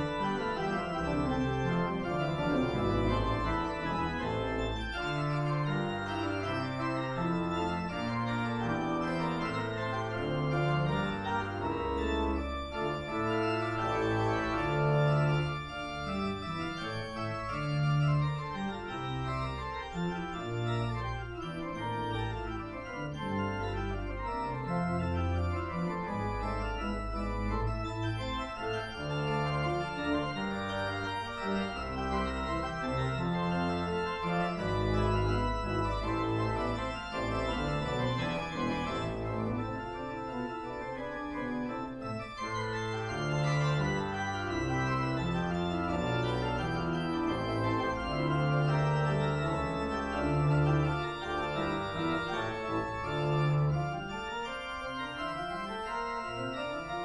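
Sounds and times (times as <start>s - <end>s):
church organ playing: 0.0s - 57.0s.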